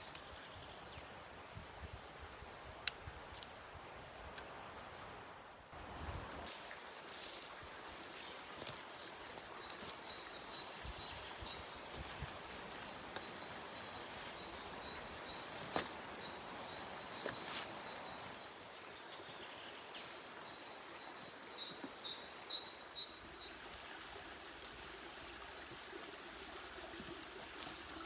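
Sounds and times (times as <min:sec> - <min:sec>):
outdoor hiss: 0:00.0 - 0:28.0.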